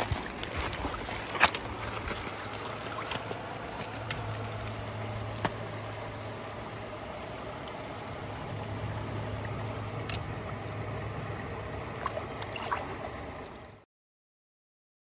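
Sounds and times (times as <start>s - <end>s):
light water splashes: 0.0s - 6.1s, 7.5s - 13.8s
stream running over stones: 0.0s - 13.8s.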